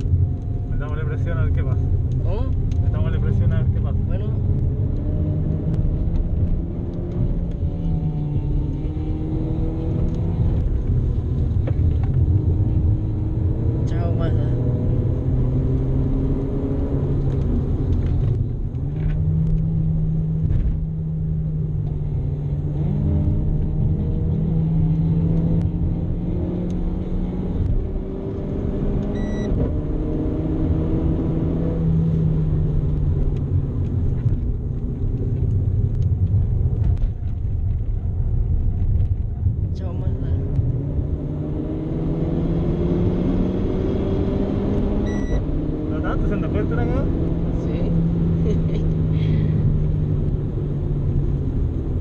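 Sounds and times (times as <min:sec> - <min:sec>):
car engine revving: 0:00.0 - 0:52.0
wind and road noise: 0:00.0 - 0:52.0.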